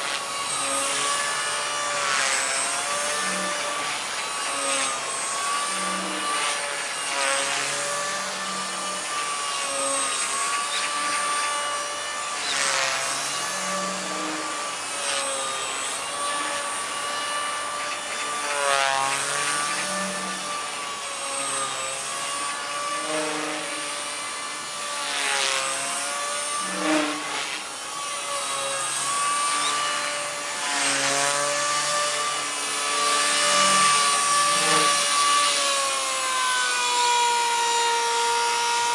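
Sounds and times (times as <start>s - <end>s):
whooshing rotor rush: 0.0s - 37.5s
model helicopter motor whine: 0.0s - 38.9s.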